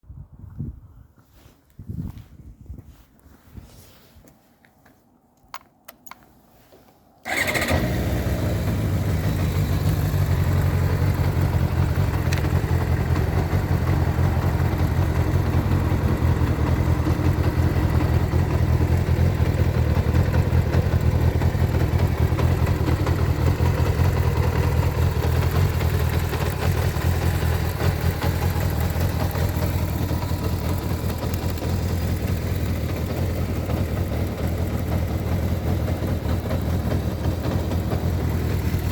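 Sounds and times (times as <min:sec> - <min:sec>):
motorcycle engine starting and running: 0:07.2 - 0:38.9.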